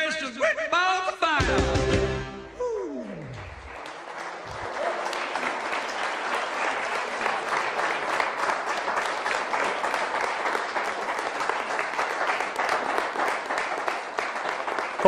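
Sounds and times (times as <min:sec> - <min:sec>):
audience applauding: 0:02.9 - 0:15.0.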